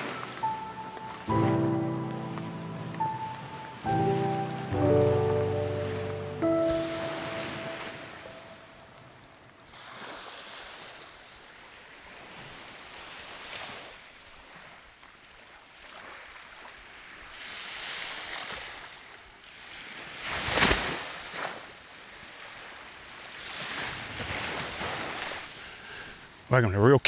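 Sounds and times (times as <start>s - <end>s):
small waves washing onto beach: 0.0s - 26.2s.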